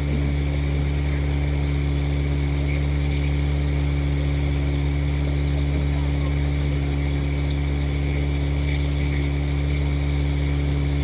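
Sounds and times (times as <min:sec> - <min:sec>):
motorboat engine running: 0:00.0 - 0:11.0.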